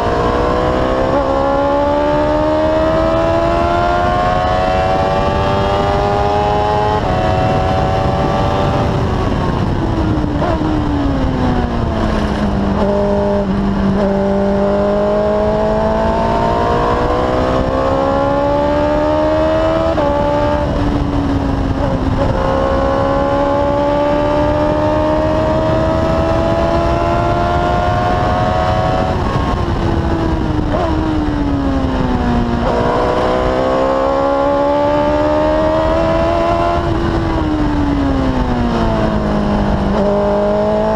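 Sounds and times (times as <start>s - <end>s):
race car engine accelerating: 0.0s - 40.9s
road noise: 0.0s - 40.9s
wind noise: 0.0s - 40.9s.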